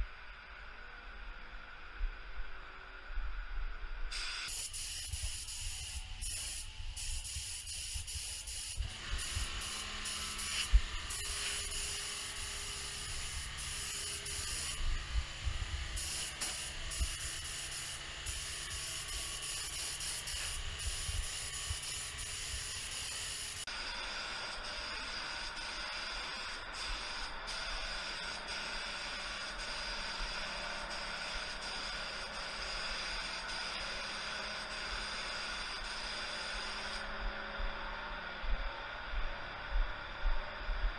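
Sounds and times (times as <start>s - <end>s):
spray gun hissing: 4.1s - 37.1s.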